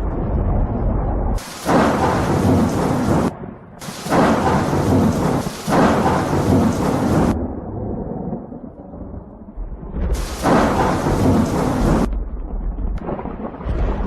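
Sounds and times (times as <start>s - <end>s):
rain: 0.0s - 14.0s
thunder rolling: 0.0s - 14.0s.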